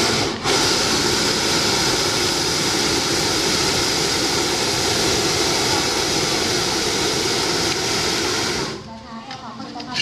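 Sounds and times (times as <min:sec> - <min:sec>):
propane burner roaring: 0:00.0 - 0:10.0.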